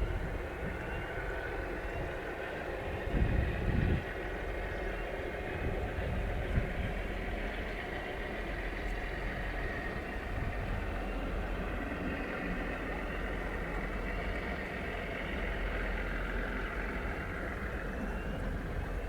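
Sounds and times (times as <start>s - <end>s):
locomotive engine running: 0.0s - 19.0s.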